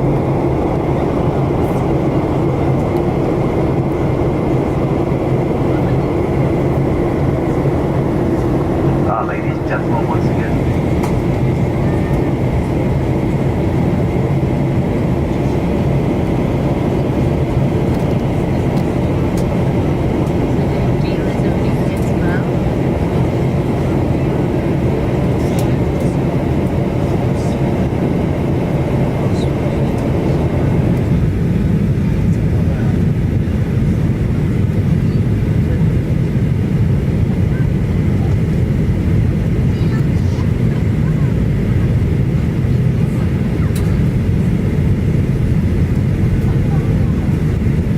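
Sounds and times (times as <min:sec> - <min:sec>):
aircraft cabin drone: 0:00.0 - 0:47.9.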